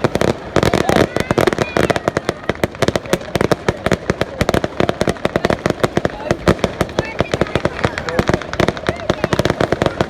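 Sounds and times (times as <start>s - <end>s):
fireworks popping and banging: 0.0s - 10.0s.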